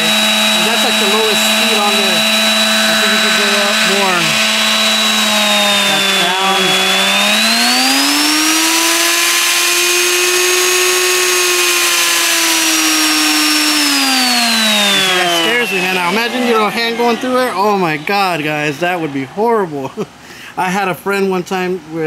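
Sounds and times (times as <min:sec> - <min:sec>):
router motor whining: 0:00.0 - 0:19.6.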